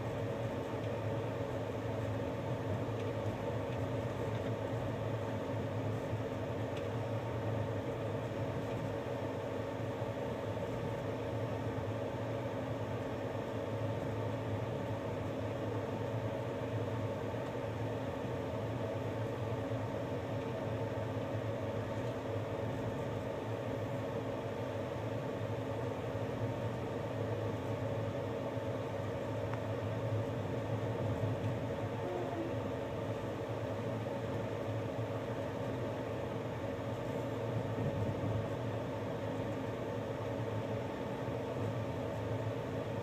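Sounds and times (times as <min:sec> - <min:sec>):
constant low hum: 0:00.0 - 0:43.0.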